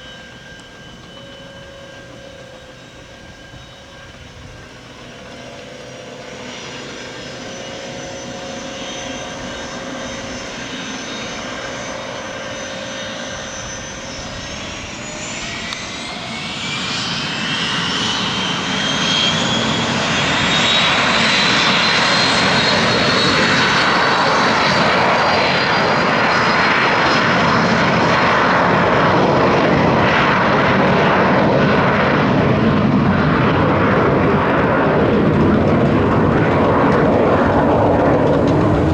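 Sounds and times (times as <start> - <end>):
aircraft turbine engines running: 0.0 - 38.9
rising turbine whine: 0.0 - 38.9.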